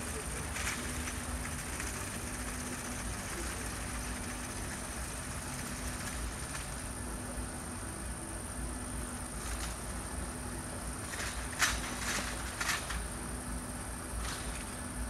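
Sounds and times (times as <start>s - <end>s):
helicopter turbines idling: 0.0s - 15.0s.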